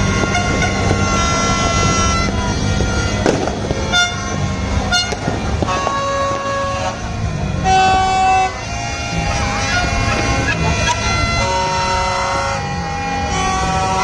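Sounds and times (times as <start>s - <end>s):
firework bangs and crackles: 0.0s - 8.6s, 9.2s - 12.0s
loud horn blast: 0.0s - 14.0s
many horns tooting: 0.0s - 14.0s.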